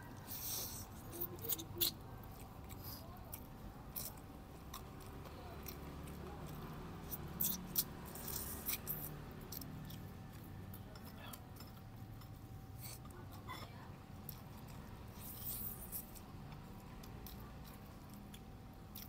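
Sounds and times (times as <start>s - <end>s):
people chewing and crunching: 0.0s - 19.0s.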